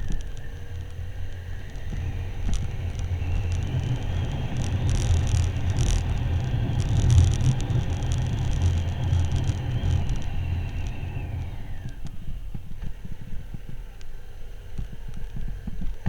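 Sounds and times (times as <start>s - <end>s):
faint motorcycle engine whine: 0.0s - 16.0s
heavy wind rumble: 0.0s - 16.0s.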